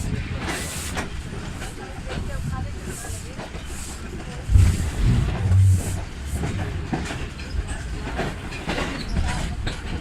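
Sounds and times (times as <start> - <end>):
low train rumble: 0.0 - 10.0
train wheels clattering: 0.0 - 10.0.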